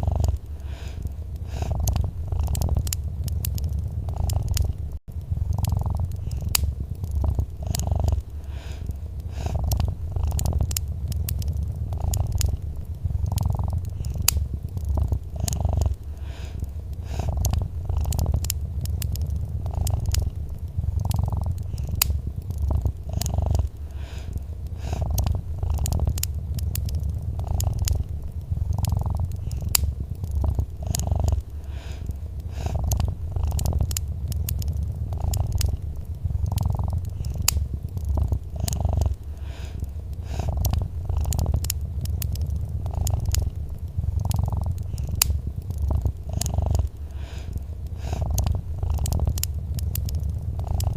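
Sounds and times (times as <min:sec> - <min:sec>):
cat purring: 0:00.0 - 0:50.9
wood fire crackling: 0:00.0 - 0:50.9.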